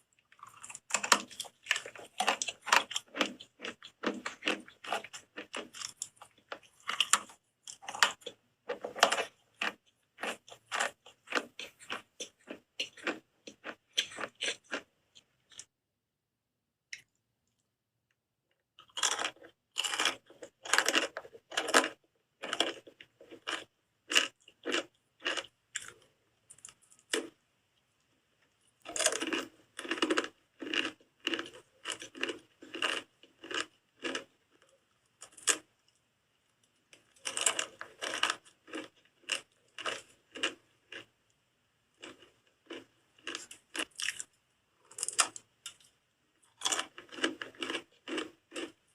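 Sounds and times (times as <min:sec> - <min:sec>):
person crunching on hard soap: 0:00.1 - 0:15.7, 0:18.8 - 0:27.4, 0:28.8 - 0:35.7, 0:36.9 - 0:41.1, 0:42.0 - 0:48.8.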